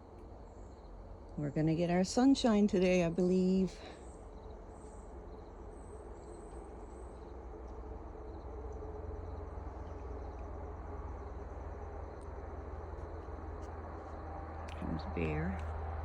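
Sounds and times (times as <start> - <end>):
insects chirping: 0.0 - 16.0
steady low rumble: 0.0 - 16.0.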